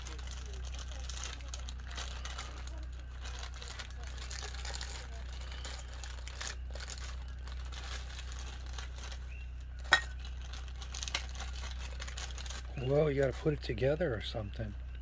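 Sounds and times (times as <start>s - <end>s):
plastic packaging crinkling: 0.0s - 13.9s.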